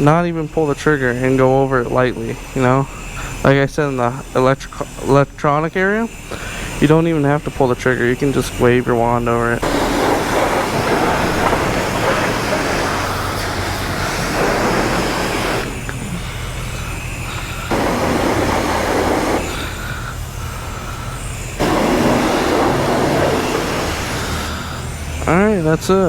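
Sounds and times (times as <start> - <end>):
low hum of wash equipment: 0.0 - 26.0
pressure washer spraying water: 0.0 - 26.0.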